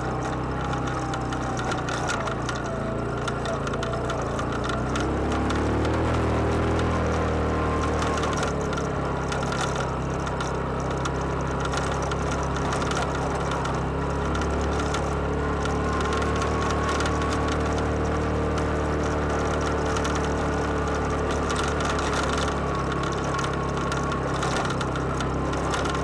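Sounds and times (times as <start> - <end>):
atv engine running: 0.0 - 26.0
scattered clicks: 0.0 - 26.0.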